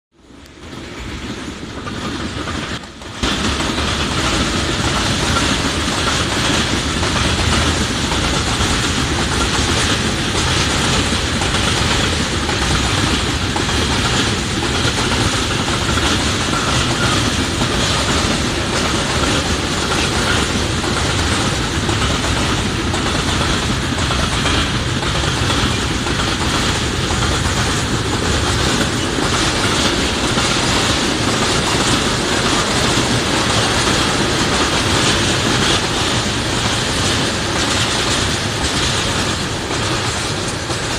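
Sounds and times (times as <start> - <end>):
train wheels clattering over rails: 0.2 - 40.9.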